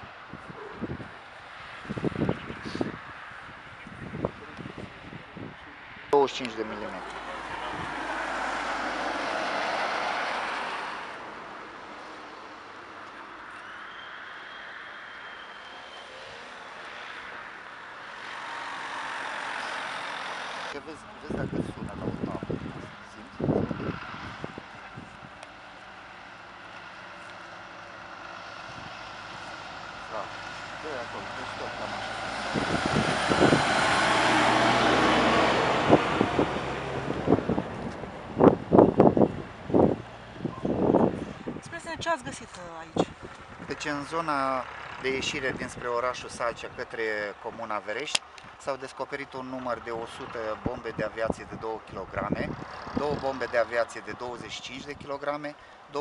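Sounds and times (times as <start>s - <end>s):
outdoor background noise: 0.0s - 56.0s
vehicle passing by: 0.8s - 56.0s.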